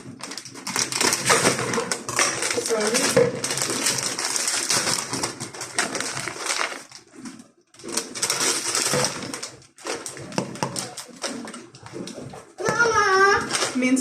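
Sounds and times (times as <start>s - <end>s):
plastic packaging torn and crinkled: 0.0s - 13.9s.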